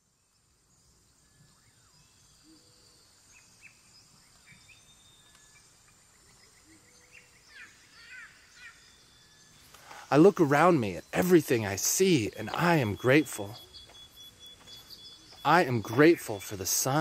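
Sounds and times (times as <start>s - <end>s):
high insect drone: 0.0s - 17.0s
birds chirping: 0.2s - 17.0s.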